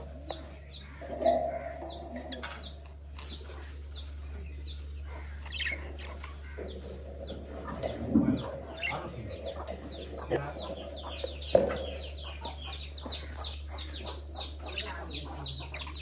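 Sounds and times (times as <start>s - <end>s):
budgerigars chirping and chattering: 0.0s - 16.0s
steady low hum: 0.0s - 16.0s.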